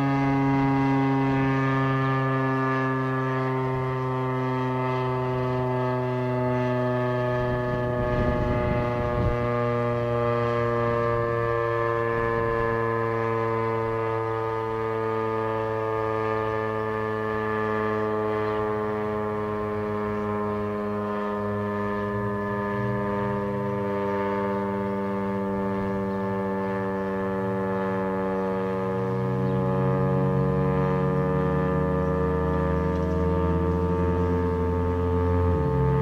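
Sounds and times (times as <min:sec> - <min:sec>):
warning siren sustained tone: 0:00.0 - 0:36.0.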